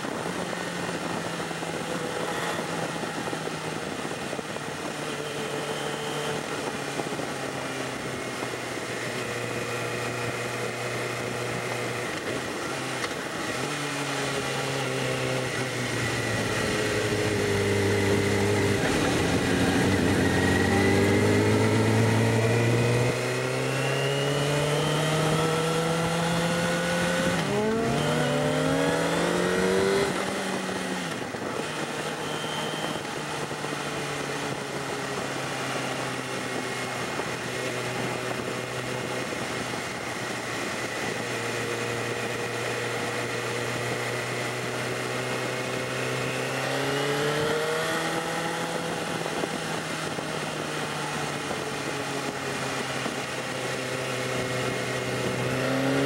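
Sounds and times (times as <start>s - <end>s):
wind rush on microphone: 0.0s - 23.6s, 24.4s - 32.2s, 32.8s - 56.0s
sport bike engine: 0.0s - 56.0s.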